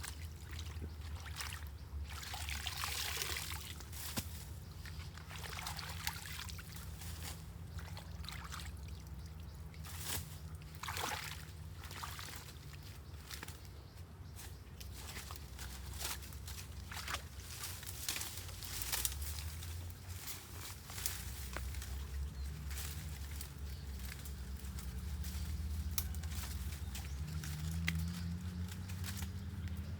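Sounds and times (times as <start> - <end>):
short water splashes: 0.0 - 13.6, 14.8 - 28.0
water trickling and sloshing: 0.0 - 29.9.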